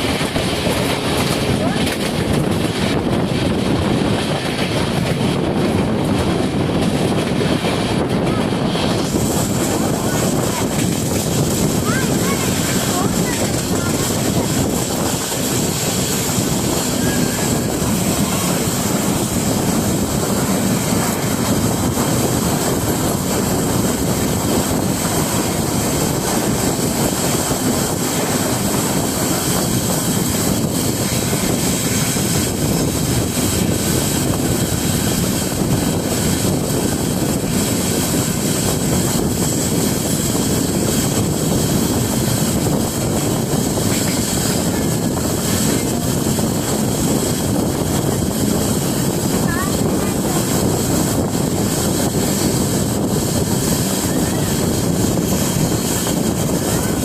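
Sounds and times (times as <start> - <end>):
rushing wind: 0.0 - 57.0
train wheels rumbling on rail: 0.0 - 57.0.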